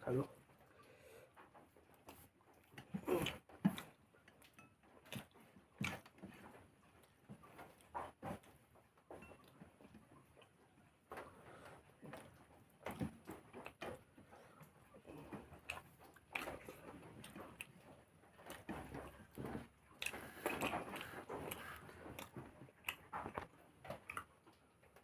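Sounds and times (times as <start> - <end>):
person chewing with mouth smacks: 0.7 - 8.6, 9.3 - 25.0.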